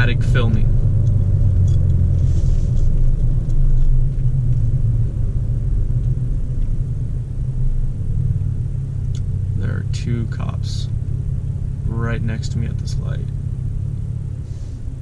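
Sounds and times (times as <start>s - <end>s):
pickup truck engine and road noise: 0.0s - 15.0s.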